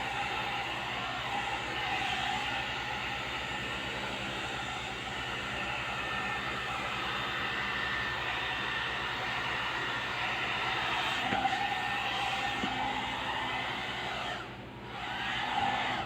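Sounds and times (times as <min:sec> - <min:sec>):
hair dryer blowing air: 0:00.0 - 0:16.0.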